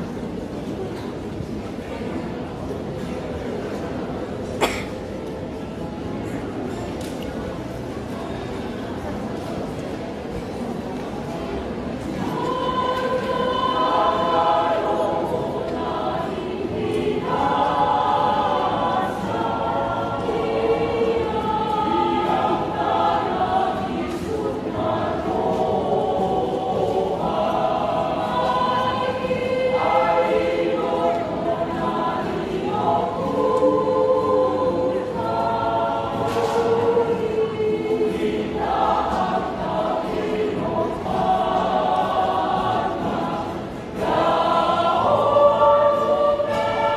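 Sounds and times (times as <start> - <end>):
mixed choir singing in harmony: 5.6 - 46.9.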